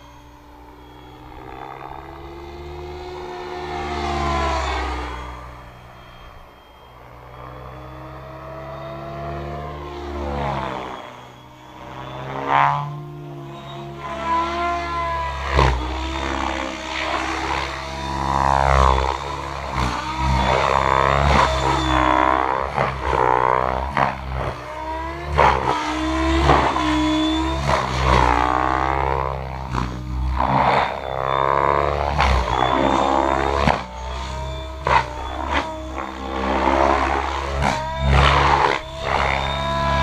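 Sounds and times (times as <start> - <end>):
rc helicopter rotor whine: 0.0 - 40.0.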